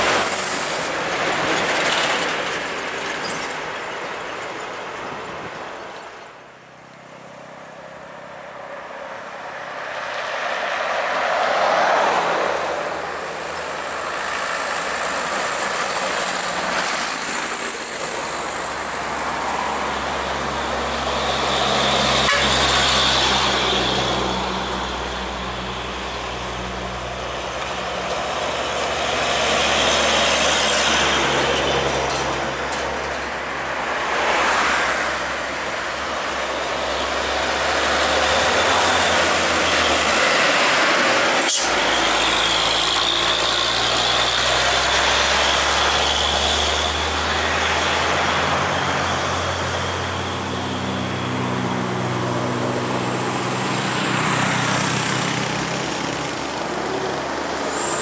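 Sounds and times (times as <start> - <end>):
diesel trucks passing: 0.0 - 58.0.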